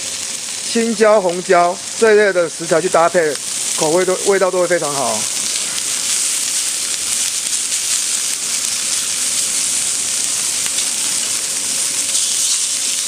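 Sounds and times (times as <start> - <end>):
pork sizzling on hotplate: 0.0 - 13.0.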